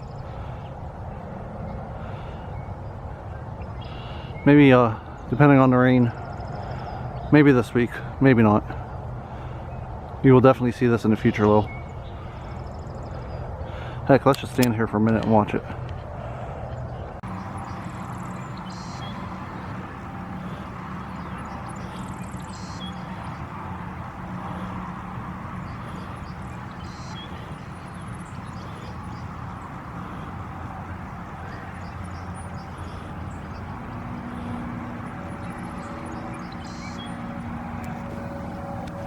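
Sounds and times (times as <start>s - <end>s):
outdoor rumble: 0.0s - 39.0s
small plane engine droning: 0.0s - 39.0s.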